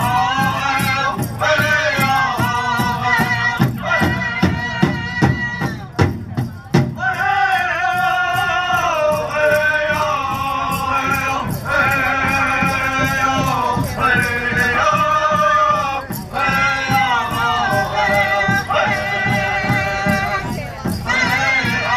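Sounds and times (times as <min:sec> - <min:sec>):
group singing together: 0:00.0 - 0:05.8, 0:07.0 - 0:21.9
steady drum beat: 0:00.0 - 0:21.9.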